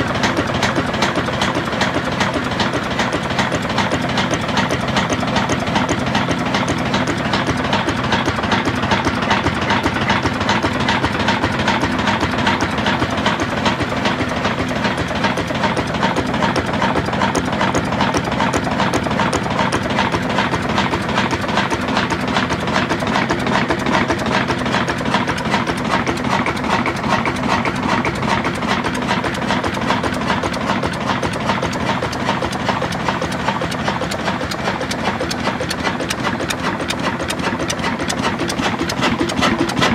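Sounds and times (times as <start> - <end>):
fast even clatter: 0.0 - 39.9
stationary engine and mill machinery: 0.0 - 39.9.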